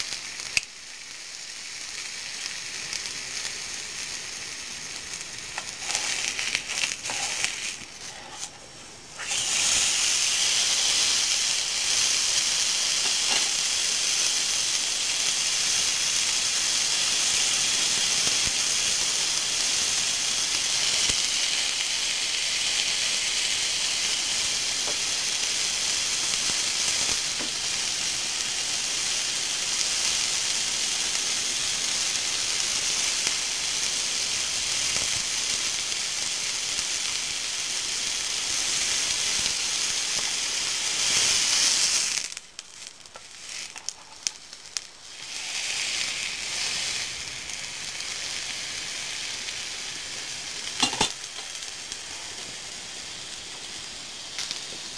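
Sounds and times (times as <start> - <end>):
steak sizzling on hot plate: 0.0 - 54.9.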